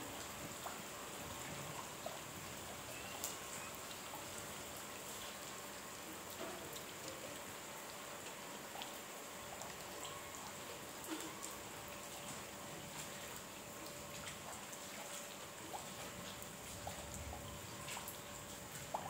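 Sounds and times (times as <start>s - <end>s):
rain on paving and foliage: 0.0s - 19.0s
water drops and drips: 0.0s - 19.0s.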